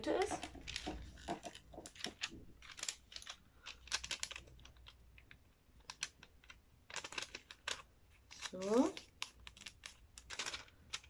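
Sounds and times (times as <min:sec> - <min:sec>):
paper folding and rustling: 0:00.0 - 0:11.0.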